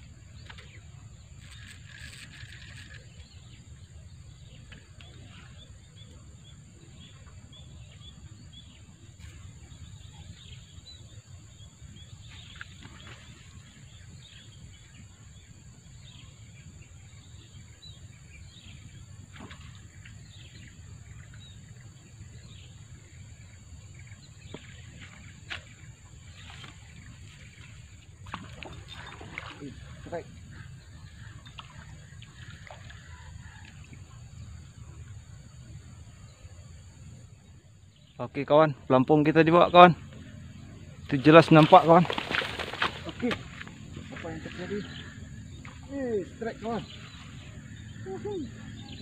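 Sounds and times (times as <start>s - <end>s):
bird calls: 0.4s - 49.0s
bird chirping: 9.6s - 49.0s.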